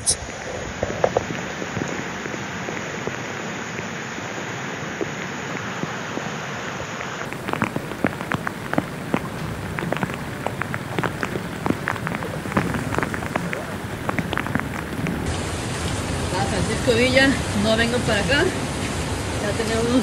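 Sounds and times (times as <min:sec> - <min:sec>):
heavy rain hissing: 0:00.0 - 0:20.0
rain drops hitting close by: 0:00.1 - 0:20.0.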